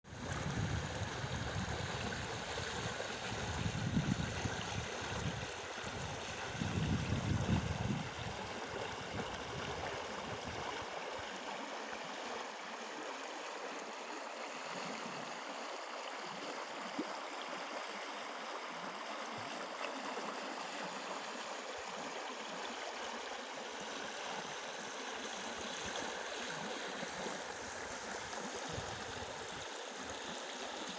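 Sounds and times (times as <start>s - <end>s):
small stream gurgling: 0.1s - 30.9s.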